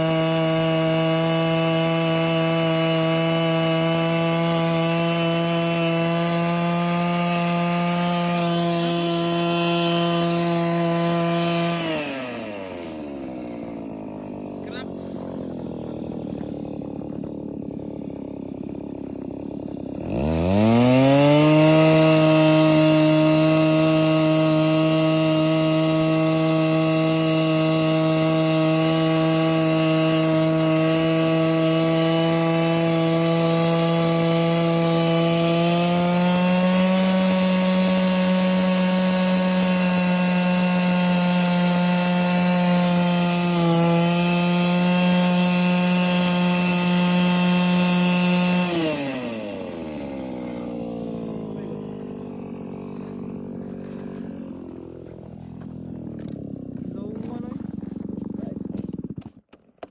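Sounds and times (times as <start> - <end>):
power ice auger motor: 0.0 - 59.9.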